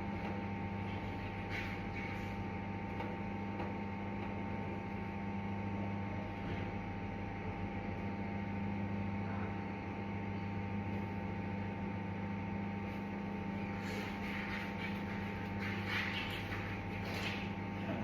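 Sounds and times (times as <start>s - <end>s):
microwave oven humming: 0.0s - 18.0s.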